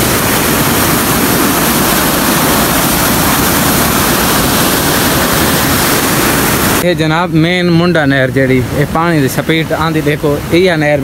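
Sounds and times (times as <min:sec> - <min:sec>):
water rushing through sluice gates: 0:00.0 - 0:11.0.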